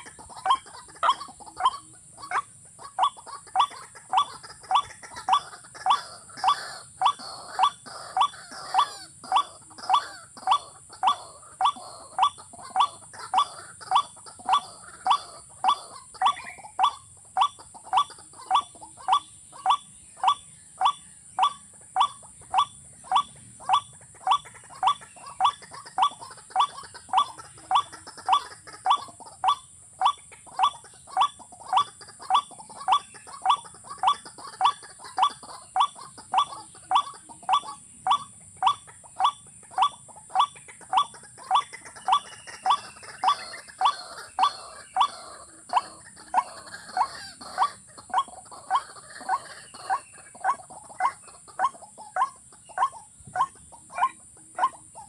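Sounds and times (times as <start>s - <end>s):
recorded bird call from speaker: 0.0s - 55.0s.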